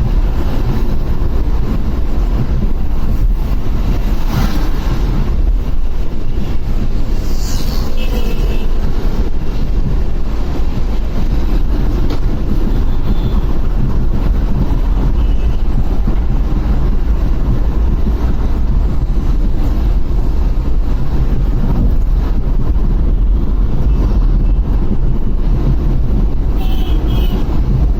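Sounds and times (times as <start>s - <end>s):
motorcycle road noise: 0.0s - 27.9s
wind rush on microphone: 0.0s - 27.9s.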